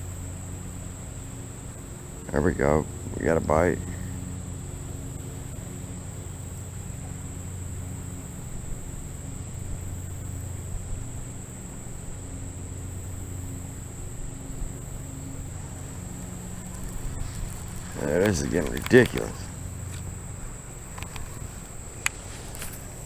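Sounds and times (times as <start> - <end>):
insects trilling: 0.0 - 23.0
low hum: 0.0 - 23.0.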